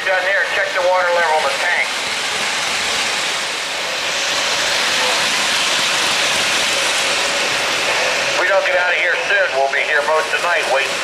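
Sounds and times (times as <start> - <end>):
steam hiss: 0.0 - 11.0.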